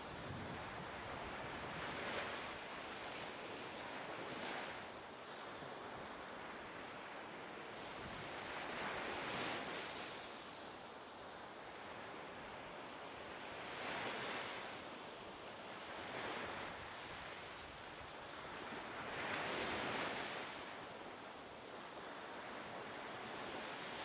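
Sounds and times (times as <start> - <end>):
wind: 0.0 - 24.0.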